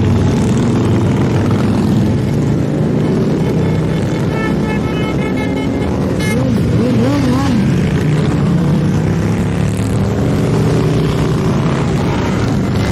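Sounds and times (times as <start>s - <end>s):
motorcycles riding past: 0.0s - 12.9s.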